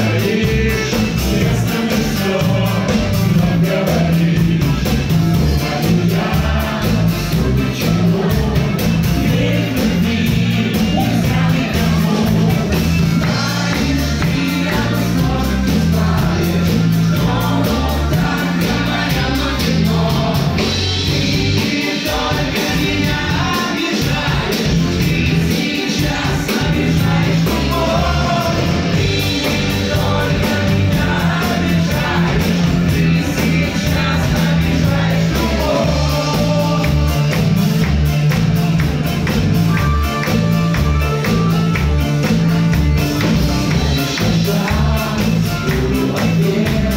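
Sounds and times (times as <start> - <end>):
live band playing: 0.0 - 46.9.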